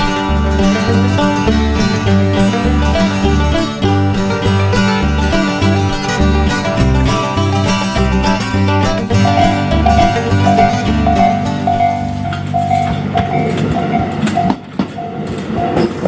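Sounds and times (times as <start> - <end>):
bluegrass music with plucked strings: 0.0 - 14.8
pulsing tone: 0.0 - 15.1.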